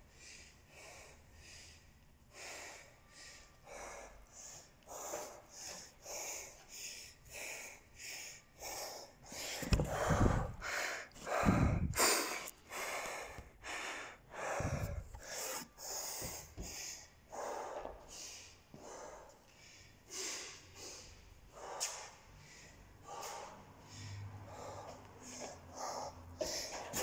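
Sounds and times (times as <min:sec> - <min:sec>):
fast heavy breathing: 0:00.2 - 0:27.0.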